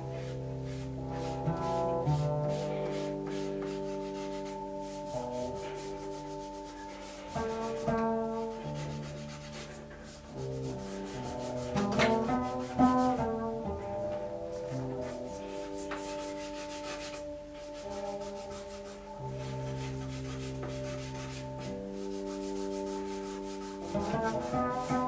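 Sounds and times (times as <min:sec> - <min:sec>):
electric upright bass tones: 0:00.0 - 0:25.0
scratchy rubbing texture: 0:00.0 - 0:25.0.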